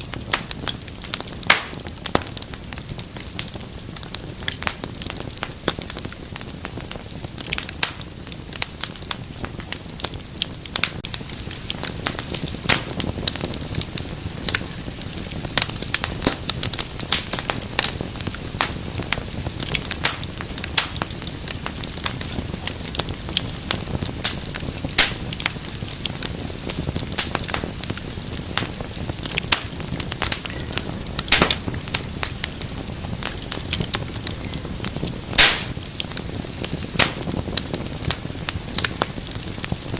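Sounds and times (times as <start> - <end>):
low rush of flame: 0.0 - 39.9
wood fire crackling and popping: 0.0 - 39.9.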